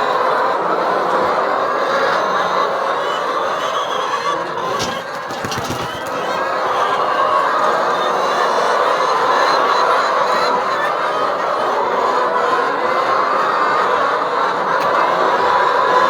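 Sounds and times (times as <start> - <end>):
flock of chickens calling: 0.0 - 16.0.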